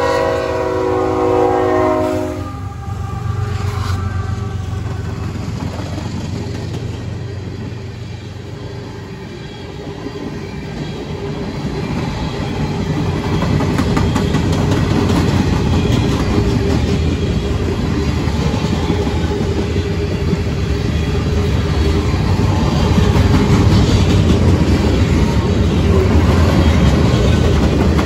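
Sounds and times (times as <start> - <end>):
train wheels rumbling on rail: 0.0 - 28.0
clickety-clack over rail joints: 4.8 - 28.0.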